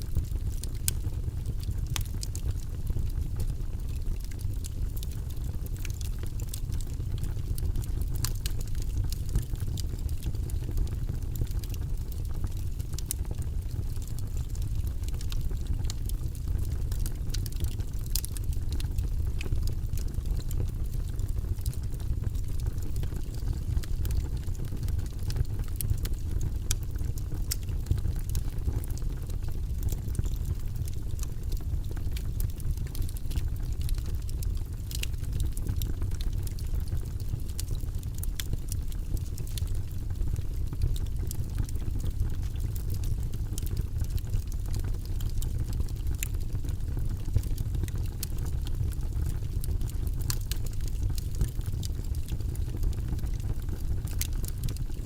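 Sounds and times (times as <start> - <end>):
fire flames rumbling: 0.0 - 55.0
logs crackling and popping: 0.1 - 55.0.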